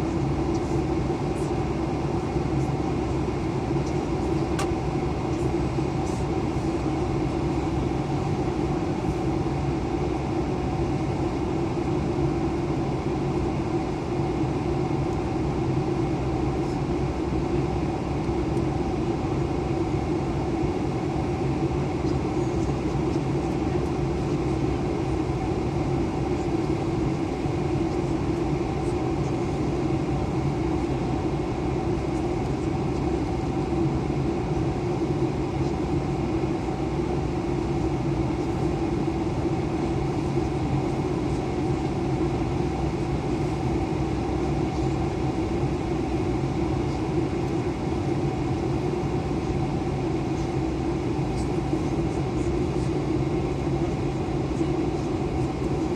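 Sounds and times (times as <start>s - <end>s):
airliner engine drone: 0.0s - 55.9s.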